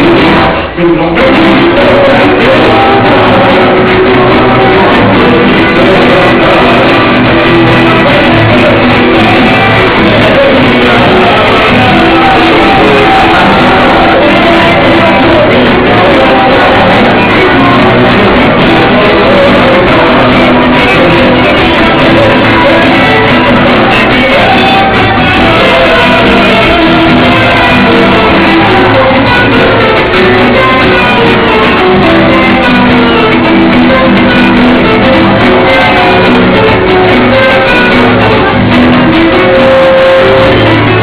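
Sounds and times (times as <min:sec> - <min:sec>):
instrumental accompaniment: 0:00.0 - 0:41.0
young voices singing loudly: 0:00.0 - 0:41.0.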